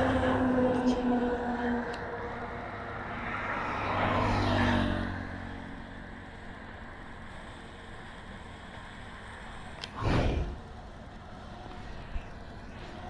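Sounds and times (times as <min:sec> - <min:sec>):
faint steady background noise: 0:00.0 - 0:13.0
vehicle passing on road: 0:00.0 - 0:13.0.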